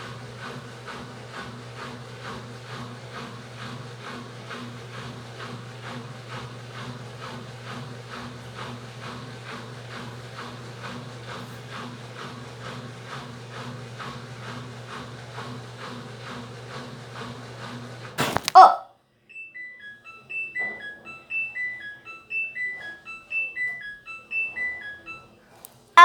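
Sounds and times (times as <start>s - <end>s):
washing machine motor hum: 0.0s - 18.7s, 19.3s - 25.4s.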